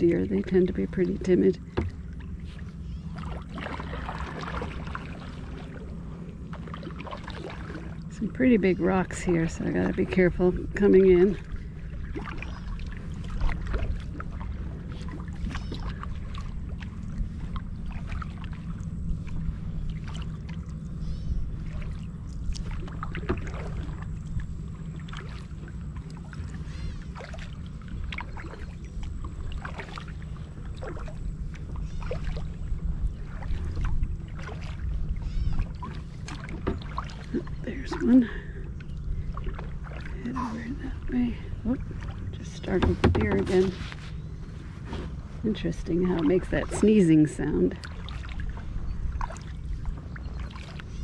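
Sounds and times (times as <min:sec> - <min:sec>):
low rumble: 0:00.0 - 0:51.0
paddle splashing and dripping: 0:00.0 - 0:51.0.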